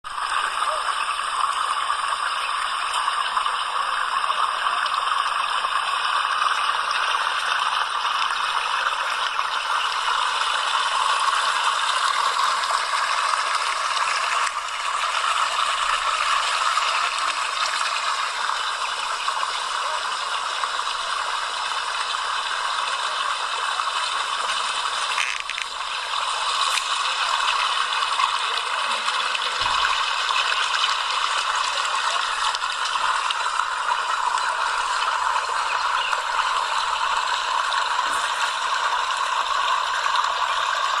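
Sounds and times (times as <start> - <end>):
water rushing and splashing: 7.5 - 41.0.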